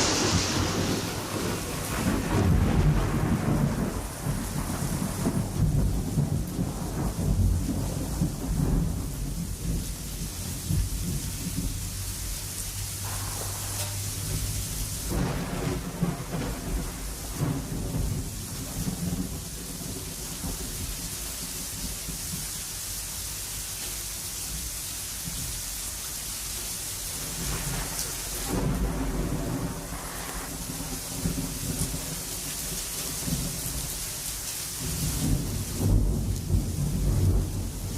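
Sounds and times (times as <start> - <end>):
thunder rumbling: 0.0 - 12.3, 12.9 - 22.6, 27.2 - 34.2, 34.8 - 37.9
rain hissing: 0.0 - 37.9.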